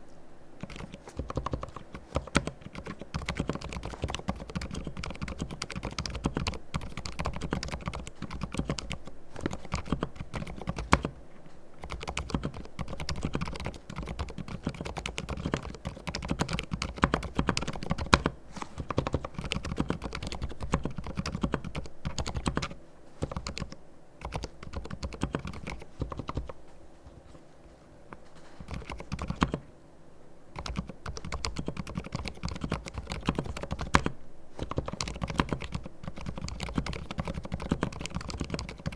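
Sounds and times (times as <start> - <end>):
soft muted keyboard keystrokes: 0.6 - 27.4, 28.0 - 29.6, 30.6 - 38.9.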